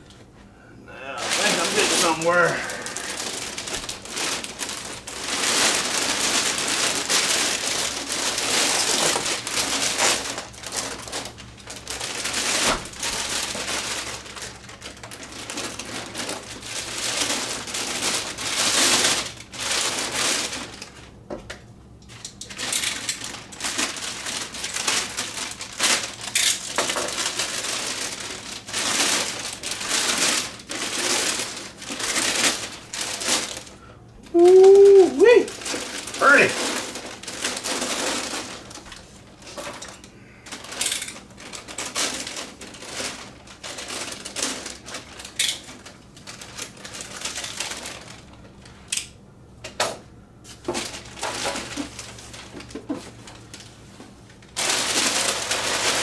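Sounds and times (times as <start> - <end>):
plastic and paper crinkling: 1.0 - 21.2, 22.0 - 49.2, 50.4 - 56.0.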